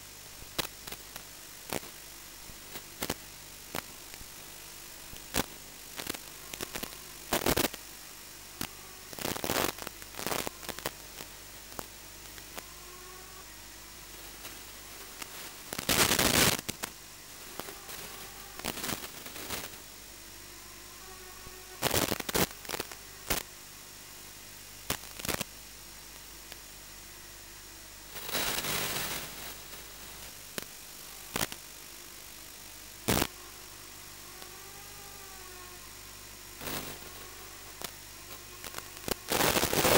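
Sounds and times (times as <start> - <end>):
faint low hum: 0.0 - 39.9
rushing static: 0.0 - 39.9
static crackles: 0.0 - 39.9
static hiss: 0.0 - 39.9.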